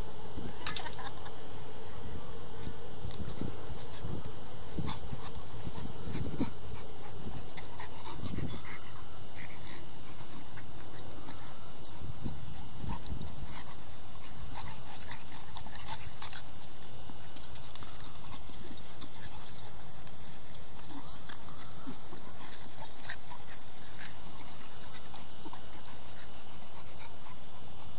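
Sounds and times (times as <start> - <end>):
puppies play fighting: 2.6 - 27.9
puppies panting: 3.1 - 27.9.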